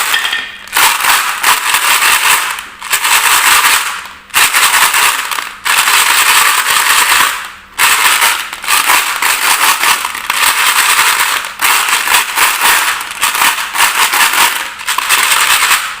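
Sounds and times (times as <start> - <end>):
marbles rattling down wooden run: 0.0 - 15.9.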